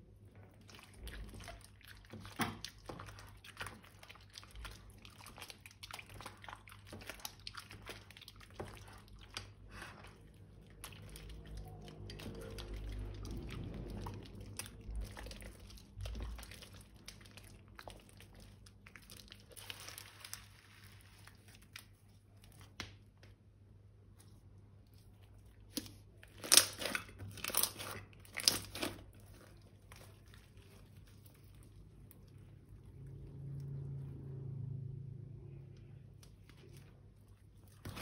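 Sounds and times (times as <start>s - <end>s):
slime crinkling and crackling: 0.1s - 34.1s, 35.8s - 38.0s.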